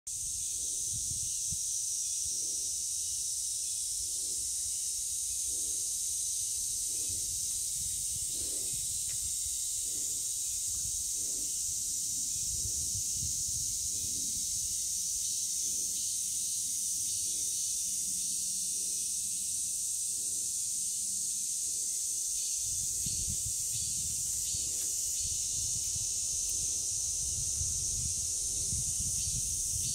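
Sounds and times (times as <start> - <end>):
high-pitched hiss: 0.1 - 29.9.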